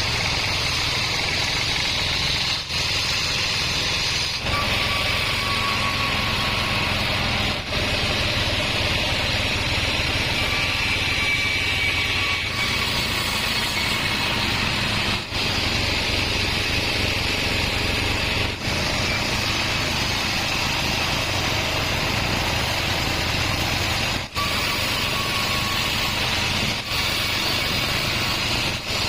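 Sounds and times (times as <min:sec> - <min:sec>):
faint high whine: 0:00.0 - 0:29.0
sawmill running: 0:00.0 - 0:29.0.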